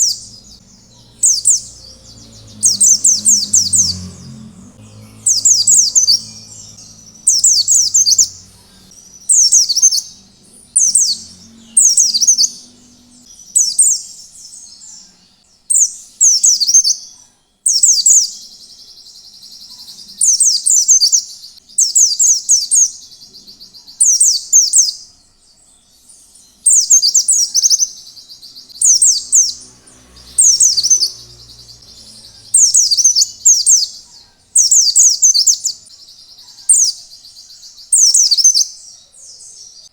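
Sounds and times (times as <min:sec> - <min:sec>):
white-eye bird singing: 0:00.0 - 0:39.9.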